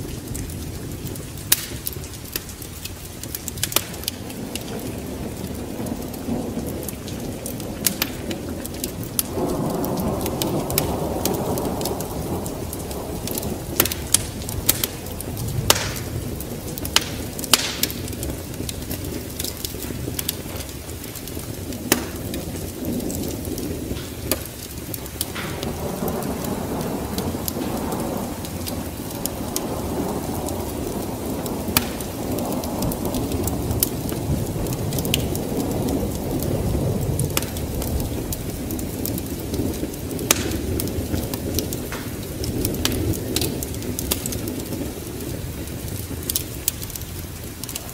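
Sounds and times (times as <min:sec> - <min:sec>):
low rolling thunder: 0:00.0 - 0:47.9
steady rain: 0:00.0 - 0:47.9
wood fire crackling: 0:00.0 - 0:47.9.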